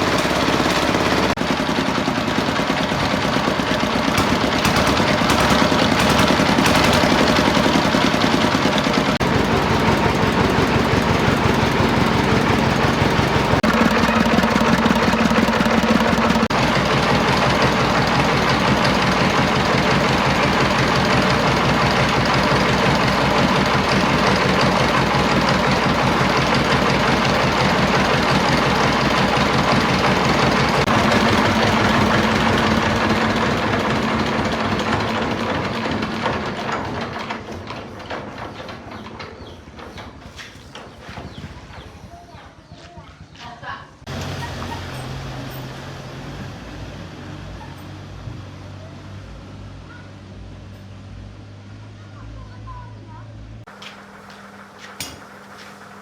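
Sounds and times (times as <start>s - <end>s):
engine running: 0.0s - 41.3s, 44.0s - 56.0s.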